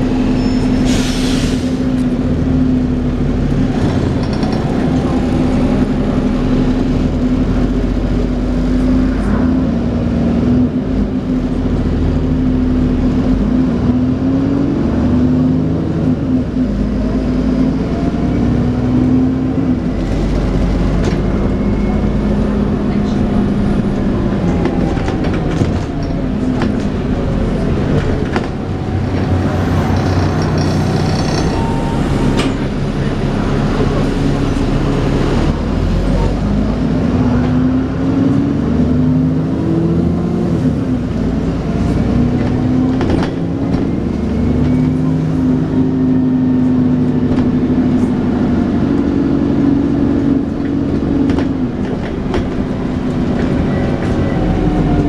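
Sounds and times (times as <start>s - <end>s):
bus engine whining: 0.0s - 55.0s.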